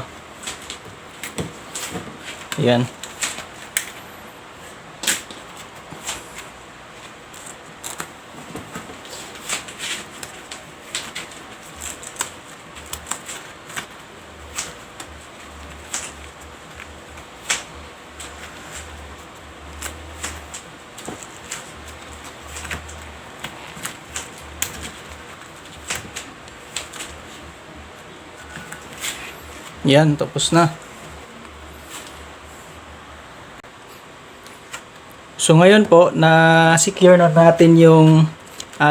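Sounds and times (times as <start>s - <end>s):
tape crackling and clicking: 0.3s - 4.0s, 5.0s - 32.4s, 38.0s - 38.9s.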